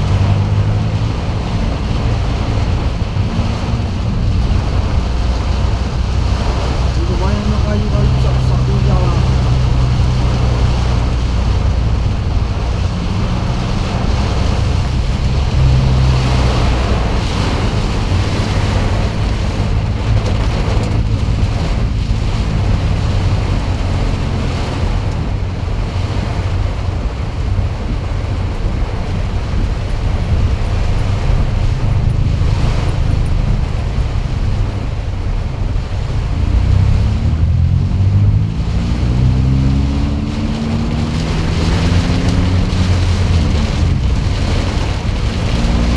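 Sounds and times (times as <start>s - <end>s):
heavy rain: 0.0s - 45.9s
low hum: 0.0s - 45.9s.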